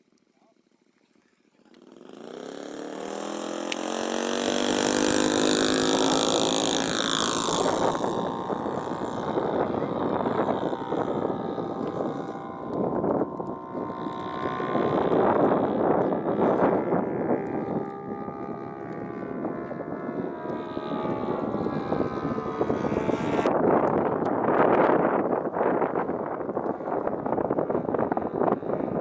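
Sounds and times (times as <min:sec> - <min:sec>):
model plane engine: 0:00.0 - 0:29.0.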